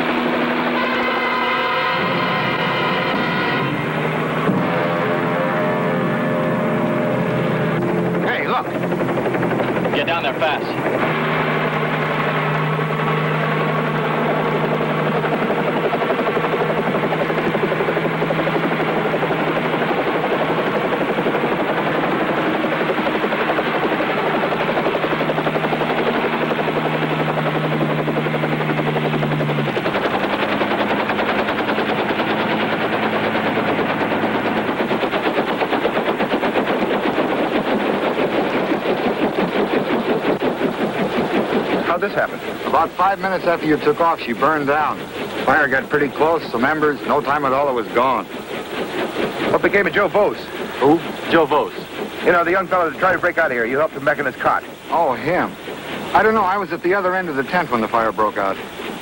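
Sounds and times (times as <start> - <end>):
helicopter engine and rotor chop: 0.0 - 59.0.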